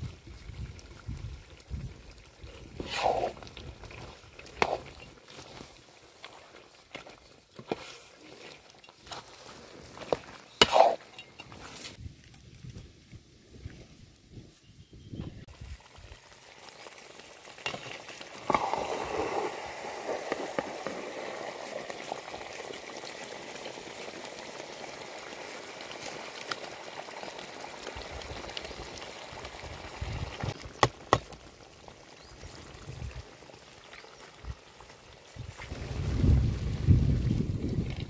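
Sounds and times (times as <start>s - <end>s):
gravy bubbling and sizzling: 0.0s - 13.6s, 15.4s - 38.0s.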